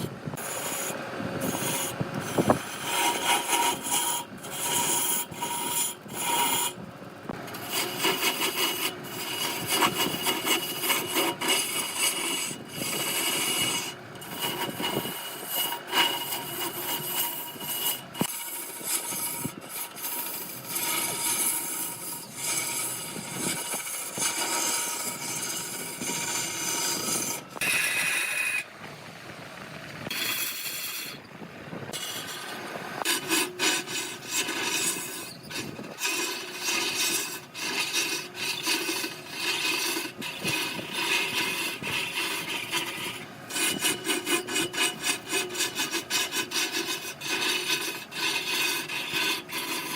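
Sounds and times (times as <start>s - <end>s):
lathe tool scraping wood: 0.0s - 28.7s, 30.1s - 31.3s, 31.9s - 49.9s.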